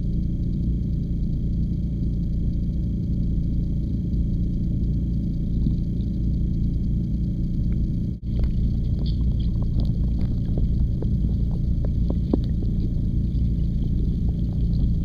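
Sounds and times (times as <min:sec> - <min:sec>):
muffled underwater rumble: 0:00.0 - 0:15.0
small underwater clicks: 0:00.0 - 0:15.0.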